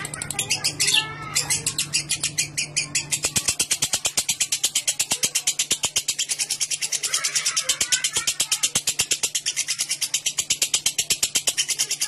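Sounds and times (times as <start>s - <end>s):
lovebird rattling chatter: 0.0s - 12.0s.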